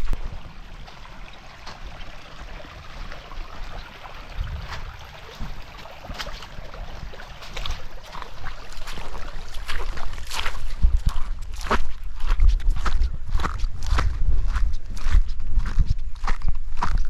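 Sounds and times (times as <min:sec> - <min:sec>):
footsteps crunching on stony track: 0:00.0 - 0:02.1, 0:04.4 - 0:17.0
wind rumble on microphone: 0:02.8 - 0:17.0.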